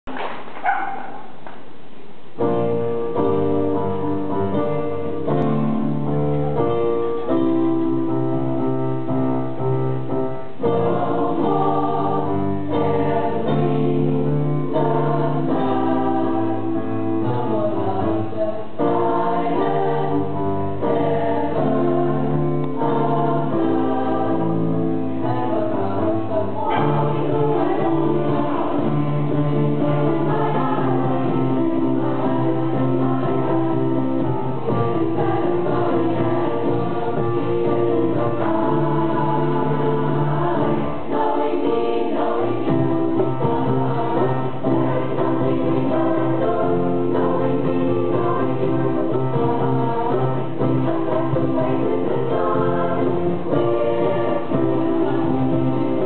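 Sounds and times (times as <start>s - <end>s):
keyboard: 2.4s - 56.0s
choir of women singing: 10.6s - 56.0s.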